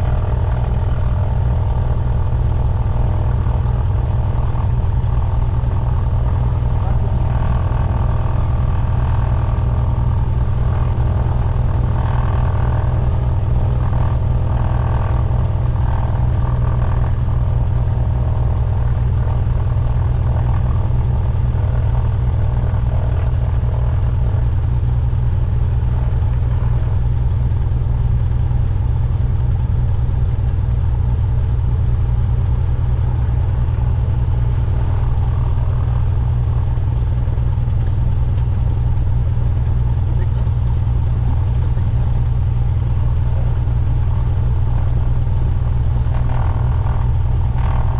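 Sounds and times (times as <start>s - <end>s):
propeller plane engine drone: 0.0s - 47.9s.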